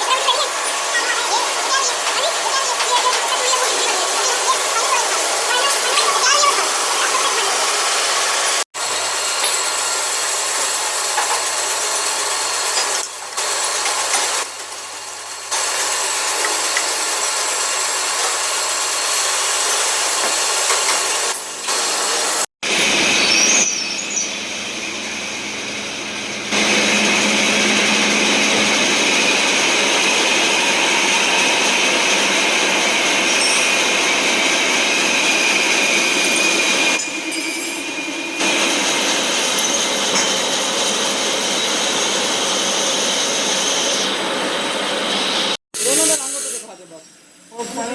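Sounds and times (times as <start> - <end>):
machine tools cutting metal: 0.0 - 47.9.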